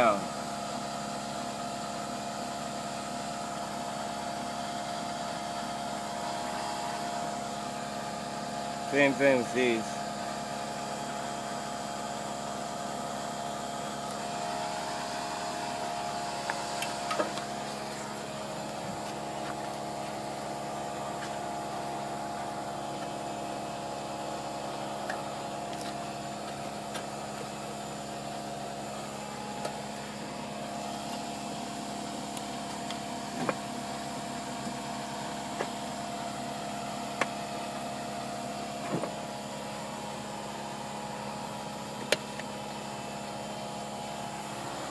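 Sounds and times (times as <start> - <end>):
machine humming: 3.4 - 44.9.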